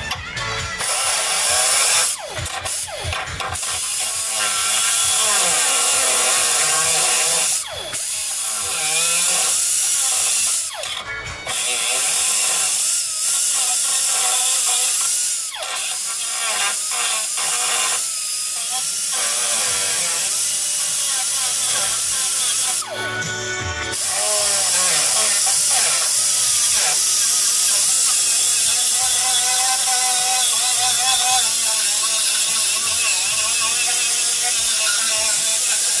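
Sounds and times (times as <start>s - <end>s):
angle grinder cutting sheet metal: 0.0s - 36.0s.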